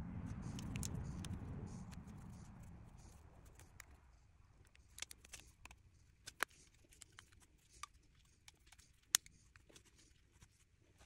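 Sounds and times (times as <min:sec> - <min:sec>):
small handling clicks and ticks: 0:00.5 - 0:11.0.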